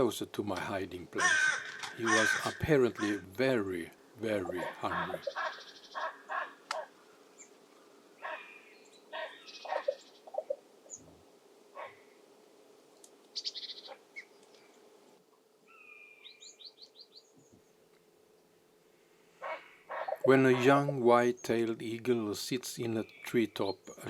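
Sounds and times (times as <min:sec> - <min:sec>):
wild birds calling: 0:00.0 - 0:12.4, 0:13.3 - 0:15.0, 0:15.6 - 0:17.9, 0:19.1 - 0:21.6, 0:22.8 - 0:24.0.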